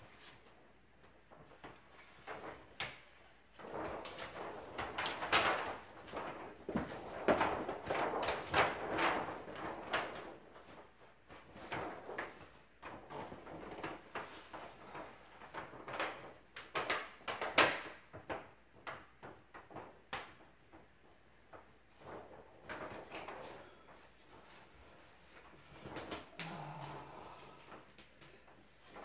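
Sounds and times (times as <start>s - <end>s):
stiff paper rustling and crinkling: 0.1s - 29.0s.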